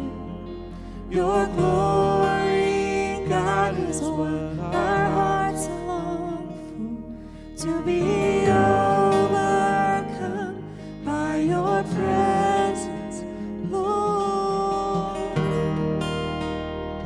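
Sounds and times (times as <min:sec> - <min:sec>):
keyboard: 0:00.0 - 0:17.0
strummed acoustic guitar: 0:00.0 - 0:17.0
woman singing: 0:01.1 - 0:15.7.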